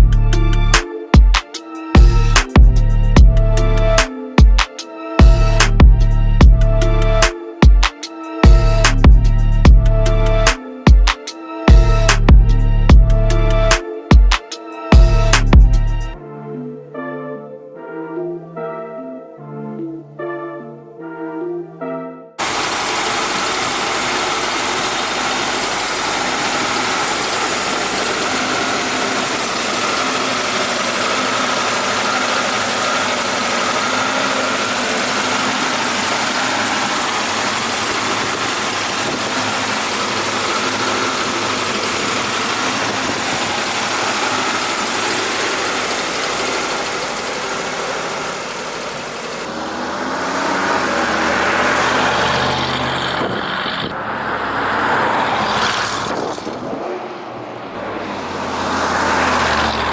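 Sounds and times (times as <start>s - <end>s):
truck engine idling: 0.0s - 4.1s, 5.2s - 7.3s, 8.0s - 10.6s, 11.3s - 13.8s, 14.7s - 16.2s, 22.4s - 59.9s.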